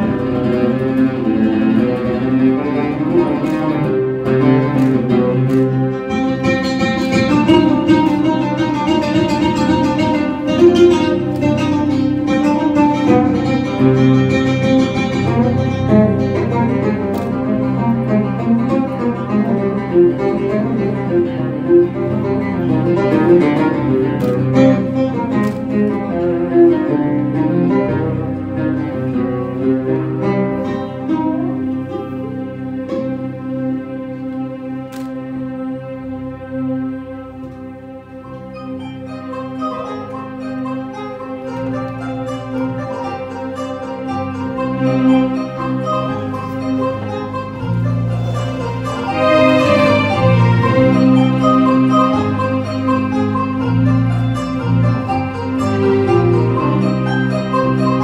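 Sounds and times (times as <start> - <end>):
keyboard melody with sustained notes: 0.0 - 58.0
plucked oud: 0.0 - 58.0.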